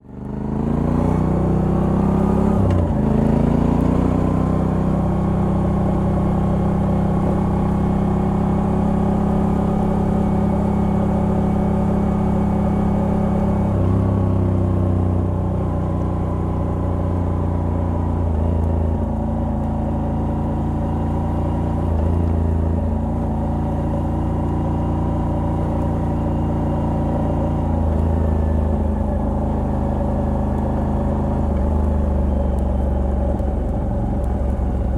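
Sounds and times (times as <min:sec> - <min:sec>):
motorcycle v-twin engine running: 0:00.0 - 0:34.9.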